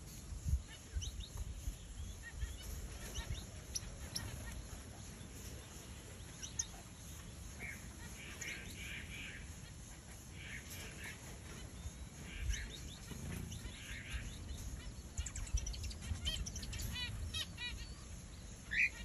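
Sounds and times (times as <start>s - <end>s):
quail chicks peeping: 0.0s - 19.0s.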